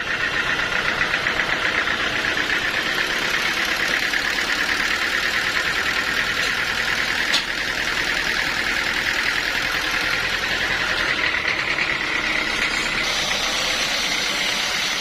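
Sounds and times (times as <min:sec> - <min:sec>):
sawmill machinery droning: 0:00.0 - 0:15.0.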